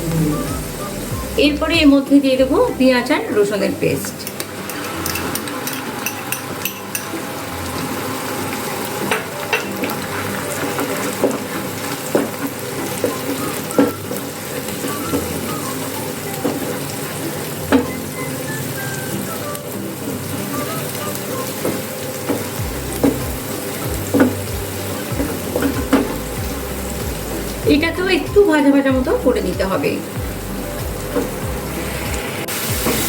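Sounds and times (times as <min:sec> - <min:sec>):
onions sizzling in hot oil: 0:00.0 - 0:33.0.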